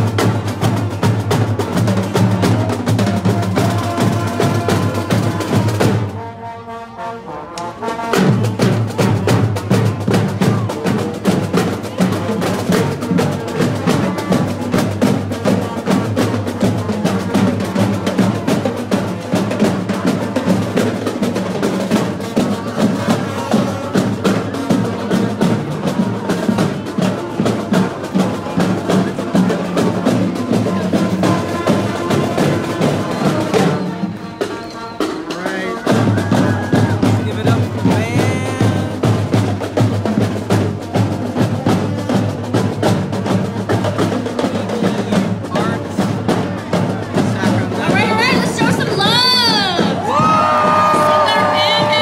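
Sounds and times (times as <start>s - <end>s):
snare and bass drums: 0.0s - 6.2s, 7.6s - 52.0s
marching band playing: 0.0s - 52.0s.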